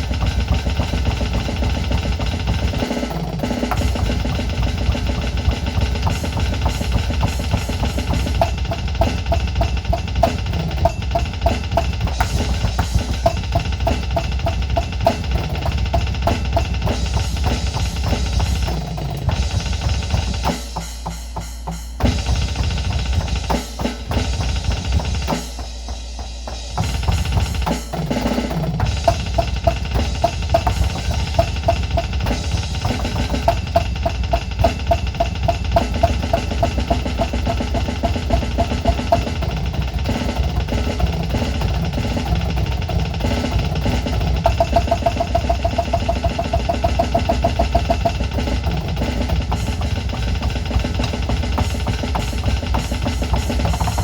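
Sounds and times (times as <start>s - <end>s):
fast metal drumming through speaker: 0.0s - 54.0s.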